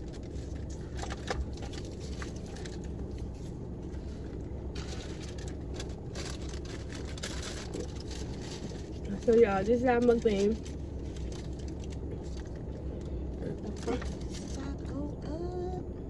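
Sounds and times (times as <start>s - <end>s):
people eating crunching food: 0.0s - 9.4s, 10.0s - 15.0s
low hum: 0.0s - 16.0s.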